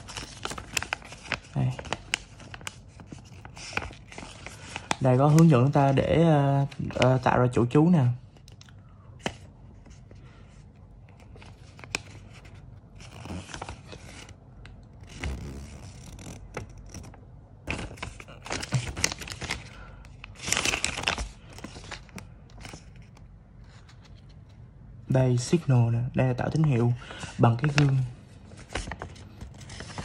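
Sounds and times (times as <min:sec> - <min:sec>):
paper crinkling and rustling: 0:00.0 - 0:07.6, 0:08.4 - 0:24.6, 0:26.3 - 0:30.0.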